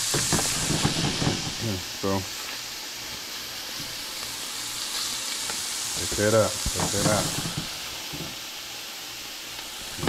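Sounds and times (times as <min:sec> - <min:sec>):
fish sizzling in a frying pan: 0:00.0 - 0:10.0.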